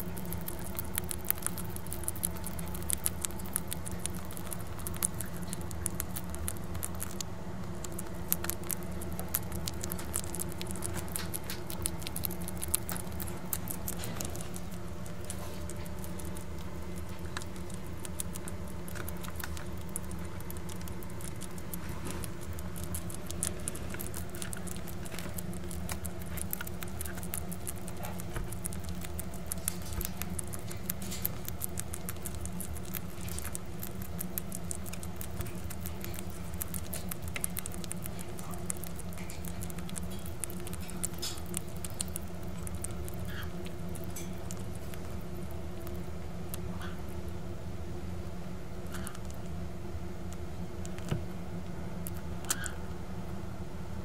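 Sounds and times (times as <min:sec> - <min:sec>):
bats crunching mealworms: 0:00.0 - 0:53.4
steady low hum: 0:00.0 - 0:54.0.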